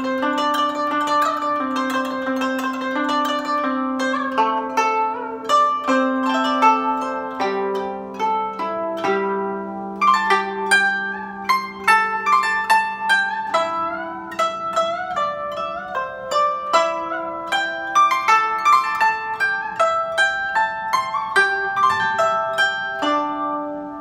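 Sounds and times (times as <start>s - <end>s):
plucked zither melody: 0.0s - 24.0s.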